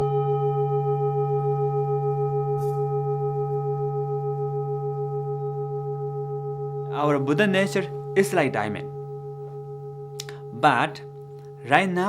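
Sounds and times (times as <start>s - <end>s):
singing bowl ringing: 0.0s - 12.0s.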